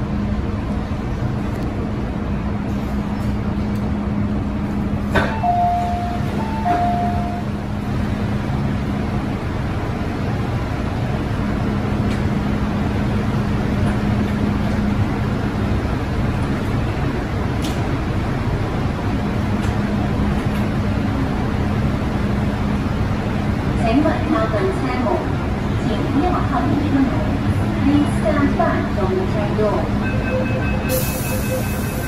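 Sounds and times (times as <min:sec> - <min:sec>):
train running noise inside car: 0:00.0 - 0:32.0.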